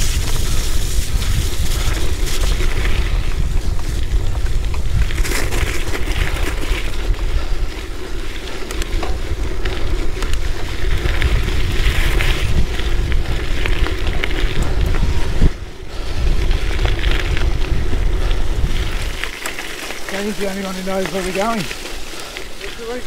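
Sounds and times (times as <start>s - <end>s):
tyres crackling over gravel: 0.0s - 23.0s
wind buffeting microphone: 0.0s - 23.0s.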